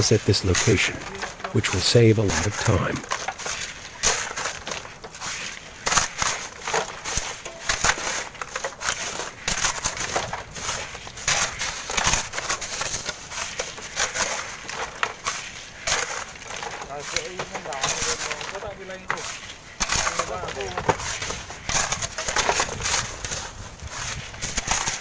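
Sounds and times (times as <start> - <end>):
shovels digging sand and gravel: 0.0 - 25.0.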